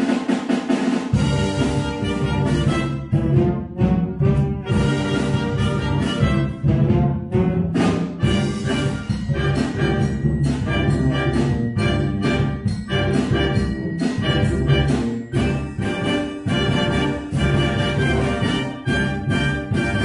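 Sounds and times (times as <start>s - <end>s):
wind band playing: 1.2s - 20.0s.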